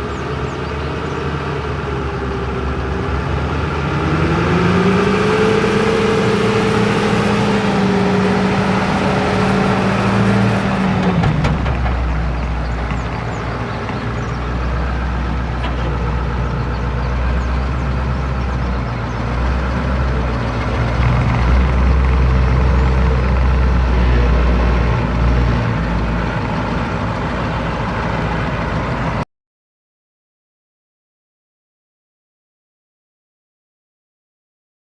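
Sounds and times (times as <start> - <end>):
diesel truck engine running: 0.0 - 29.2.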